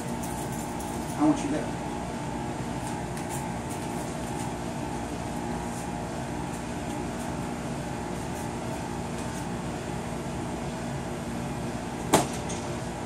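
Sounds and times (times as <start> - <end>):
mechanical room hum and hiss: 0.0 - 13.0.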